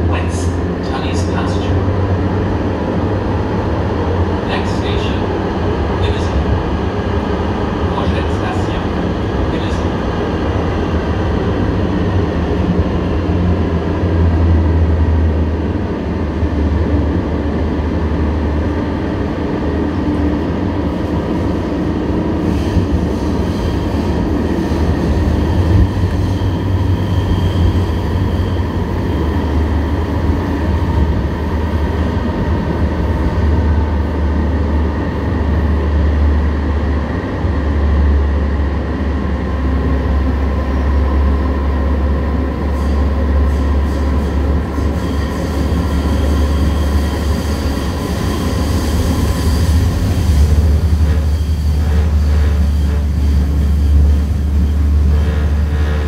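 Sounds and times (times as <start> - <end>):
train rumbling through tunnel: 0.0 - 56.0.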